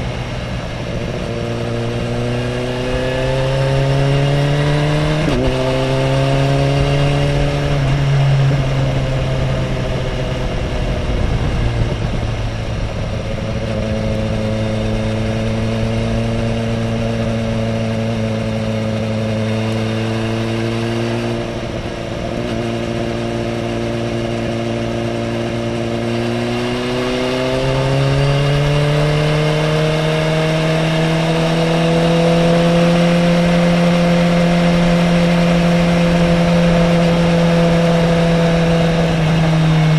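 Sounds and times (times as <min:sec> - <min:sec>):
motorcycle engine at speed: 0:00.0 - 0:39.9
rush of wind: 0:00.0 - 0:39.9.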